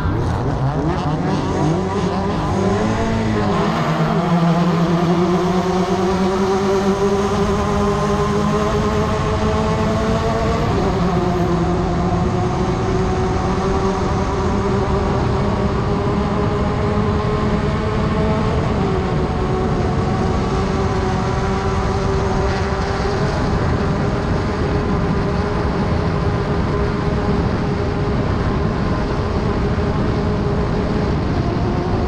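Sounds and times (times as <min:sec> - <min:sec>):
race car engine at speed: 0:00.0 - 0:32.0.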